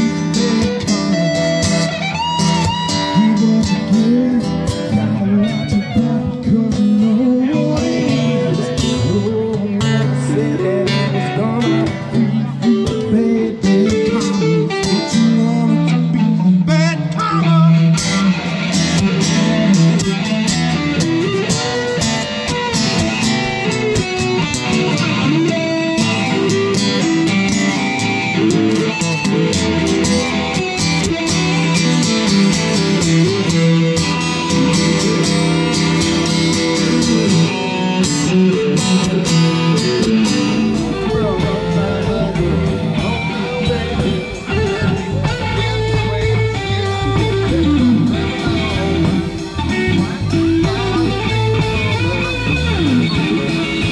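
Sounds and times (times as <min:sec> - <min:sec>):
drum kit beat: 0:00.0 - 0:53.9
electric and acoustic guitars: 0:00.0 - 0:53.9.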